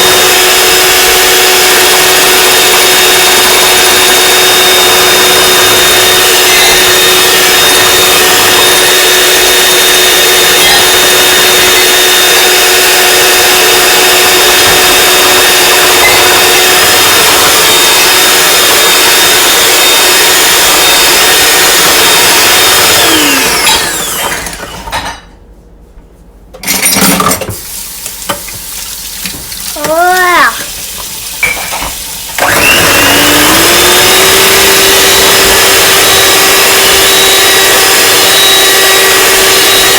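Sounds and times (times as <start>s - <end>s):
electric mixer whirring: 0.0s - 25.1s, 27.5s - 39.9s.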